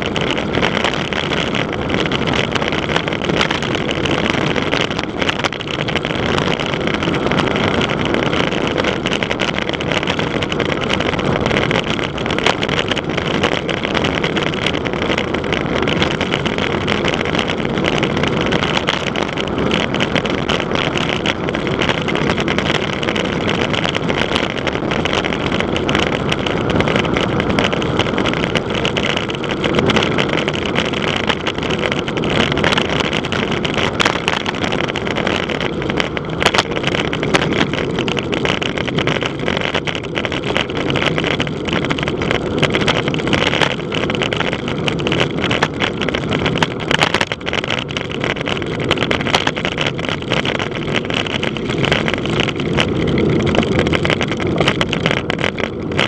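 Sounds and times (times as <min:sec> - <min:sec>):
wind buffeting crackles: 0:00.0 - 0:56.0
wind rushing over microphone: 0:00.0 - 0:56.0.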